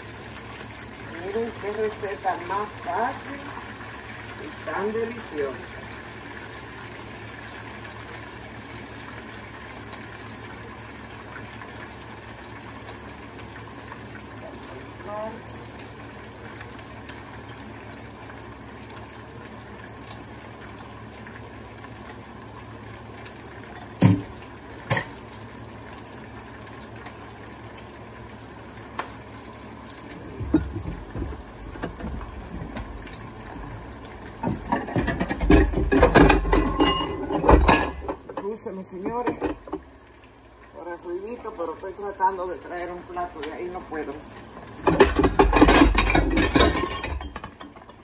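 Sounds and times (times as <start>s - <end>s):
hot oil sizzling: 0.0s - 48.0s.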